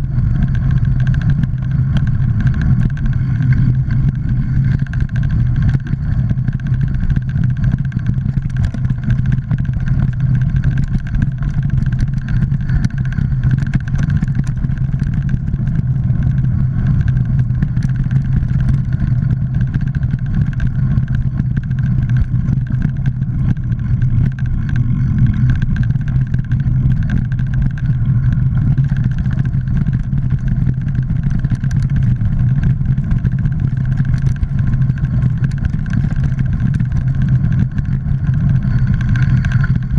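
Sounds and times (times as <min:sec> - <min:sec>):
bike rattling: 0:00.0 - 0:39.9
bike tyres rumbling on dirt: 0:00.0 - 0:39.9.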